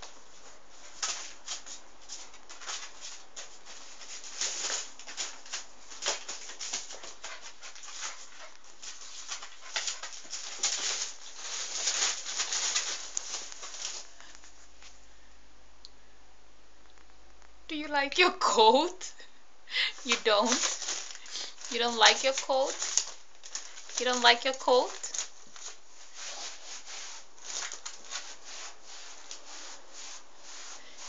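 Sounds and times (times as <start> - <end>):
fabric rustling and paws scuffing: 0.0 - 15.0, 20.1 - 31.0.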